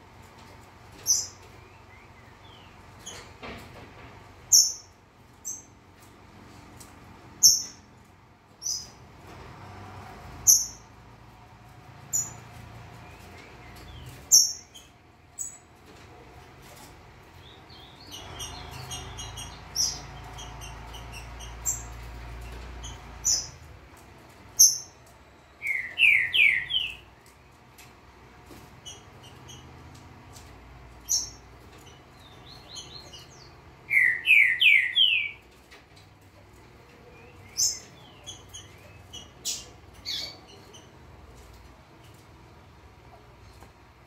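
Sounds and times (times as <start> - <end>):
songbirds chirping: 0.0 - 44.0.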